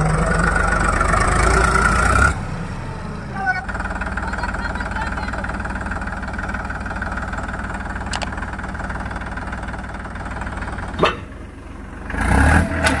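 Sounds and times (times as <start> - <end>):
diesel tractor engine idling: 0.0 - 12.4.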